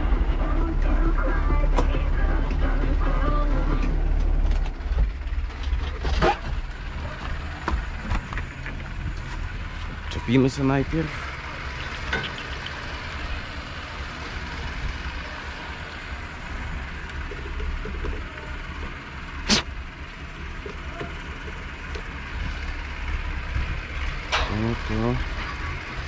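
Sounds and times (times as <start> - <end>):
engine rumbling: 0.0 - 26.0.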